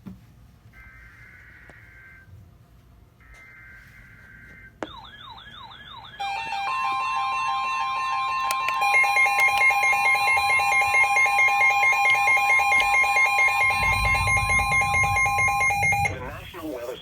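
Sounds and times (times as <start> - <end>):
warbling siren-like alarm: 0.7 - 2.6, 3.2 - 16.6
repeating beeping alarms: 0.8 - 2.3, 3.2 - 16.6
steady single-pitch alarm tone: 0.8 - 2.4, 3.2 - 16.4.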